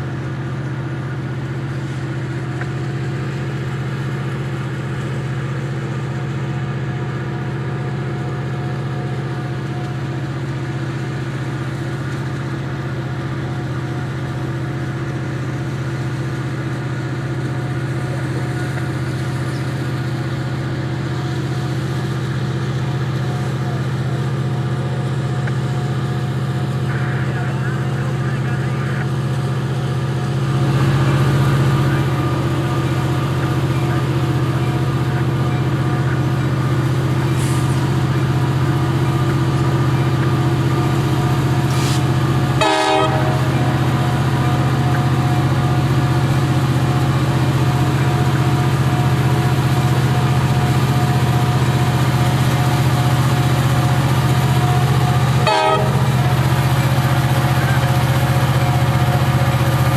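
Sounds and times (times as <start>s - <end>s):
diesel locomotives droning past: 0.0s - 59.9s.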